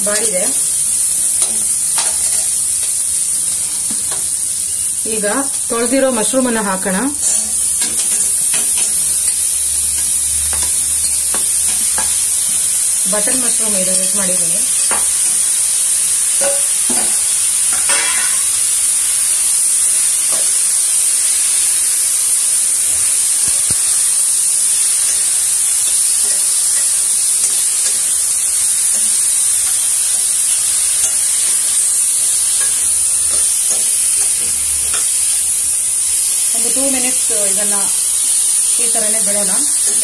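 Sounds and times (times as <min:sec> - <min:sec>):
mushrooms sizzling in hot oil: 0:00.0 - 0:40.0.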